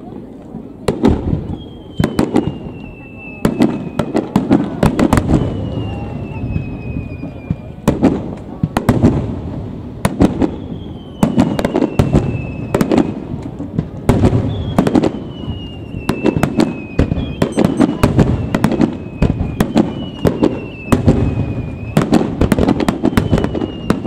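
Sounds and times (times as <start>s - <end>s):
fireworks bursting: 0.1s - 24.0s
descending firework whistle: 1.1s - 8.0s, 10.1s - 13.3s, 14.2s - 24.0s.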